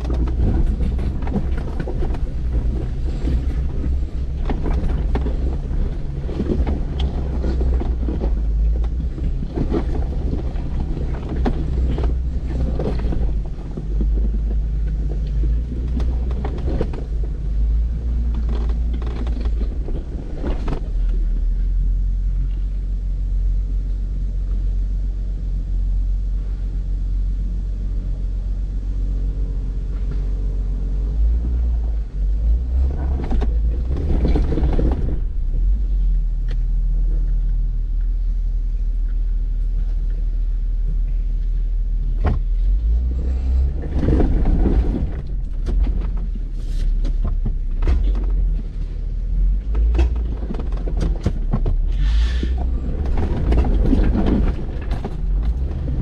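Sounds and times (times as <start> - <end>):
off-road vehicle engine rumbling: 0.0 - 56.0.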